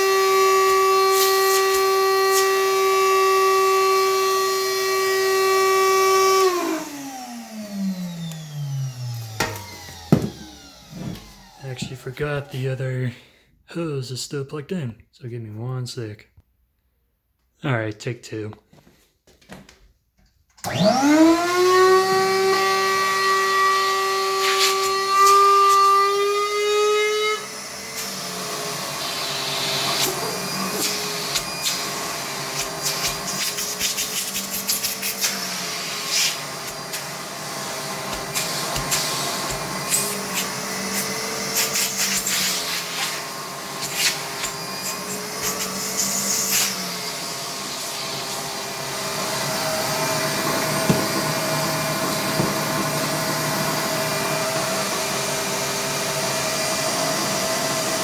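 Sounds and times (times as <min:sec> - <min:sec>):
vacuum whine and air rush: 0:00.0 - 0:12.6, 0:20.6 - 0:58.0.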